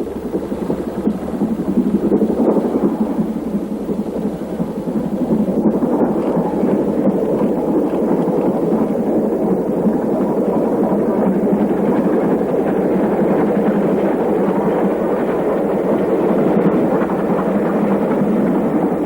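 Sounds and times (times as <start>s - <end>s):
steam locomotive exhaust roar: 0.0s - 19.0s.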